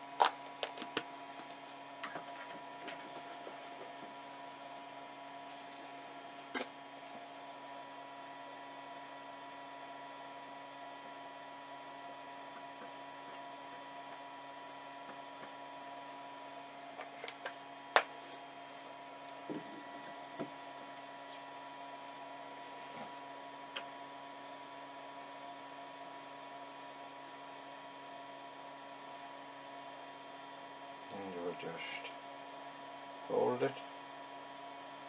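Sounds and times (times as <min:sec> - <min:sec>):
electrical hum with tones: 0:00.0 - 0:35.0.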